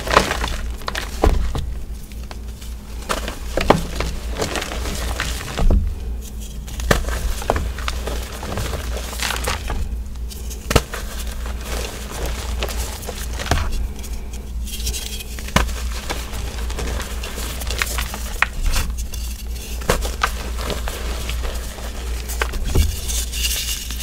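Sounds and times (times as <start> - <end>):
hands crushing chalk blocks: 0.0 - 1.7, 2.3 - 5.8, 6.6 - 13.7, 15.0 - 24.0.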